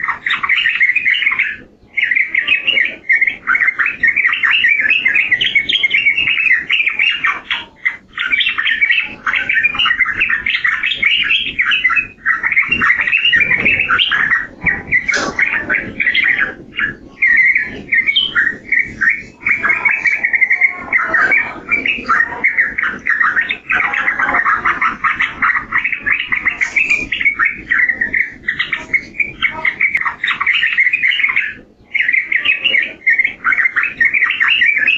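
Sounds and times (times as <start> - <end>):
bird chattering song: 0.0 - 34.9.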